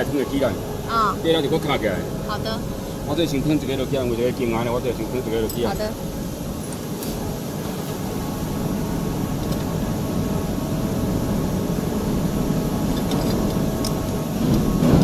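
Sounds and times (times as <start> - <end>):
industrial machinery rumble and hum: 0.0 - 15.0.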